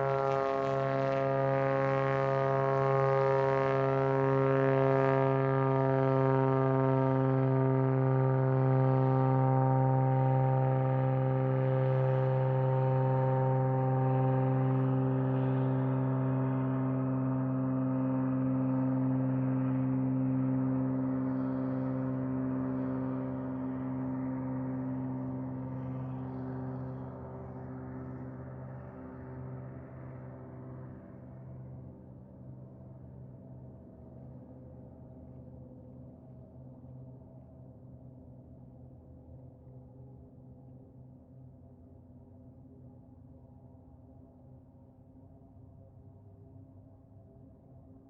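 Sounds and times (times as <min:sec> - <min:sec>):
airplane engine and propeller droning: 0:00.0 - 0:43.2.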